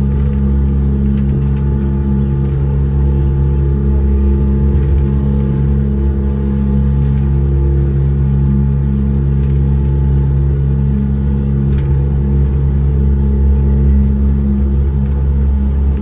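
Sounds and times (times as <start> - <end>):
monorail car humming on track: 0.0 - 16.0.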